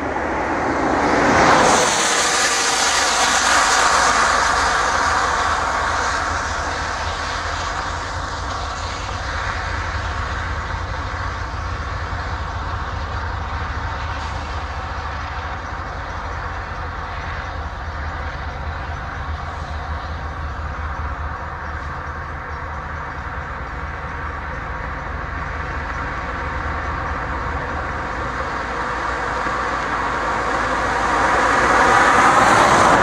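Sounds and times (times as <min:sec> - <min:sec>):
diesel locomotive engine rumble: 0:00.0 - 0:33.0
faint drone: 0:00.0 - 0:33.0.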